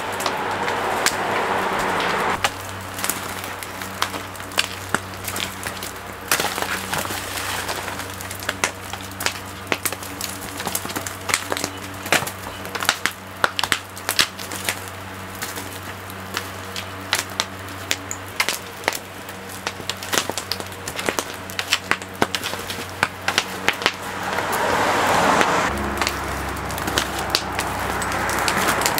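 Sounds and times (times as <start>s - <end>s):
coconuts cracking and knocking: 0.0s - 28.9s
steady low hum: 0.0s - 28.9s.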